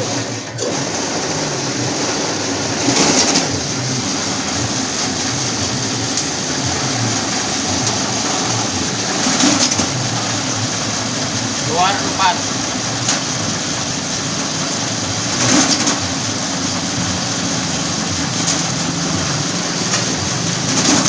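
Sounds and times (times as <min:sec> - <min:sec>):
low motor hum: 0:00.0 - 0:21.0
machine mechanical noise: 0:00.0 - 0:21.0.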